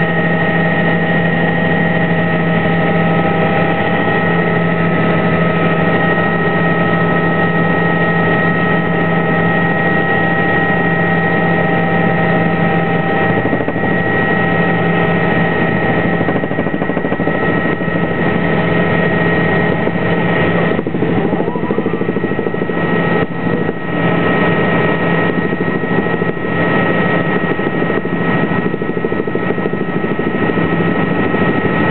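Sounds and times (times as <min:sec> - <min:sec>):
high-pitched whine: 0:00.0 - 0:27.8
helicopter engine and rotor noise: 0:00.0 - 0:31.9.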